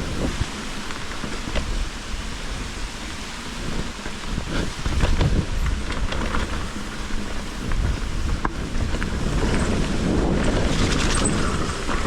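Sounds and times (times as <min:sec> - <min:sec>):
bike clicks and knocks: 0:00.0 - 0:12.0
wind rushing over microphone: 0:00.0 - 0:12.0.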